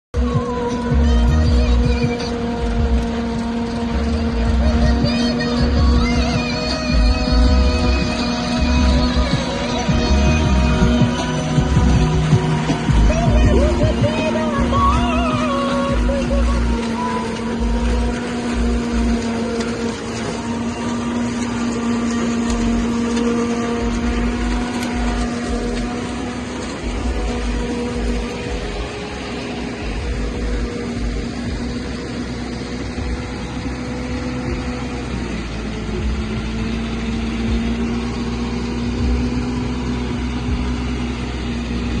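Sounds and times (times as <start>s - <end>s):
harvester mechanical hum: 0.1s - 42.0s
low rumble: 0.2s - 38.2s.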